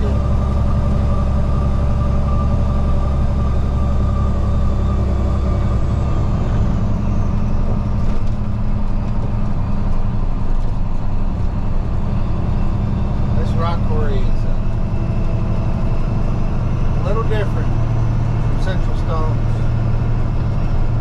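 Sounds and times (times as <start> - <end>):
diesel truck engine drone: 0.0 - 21.0.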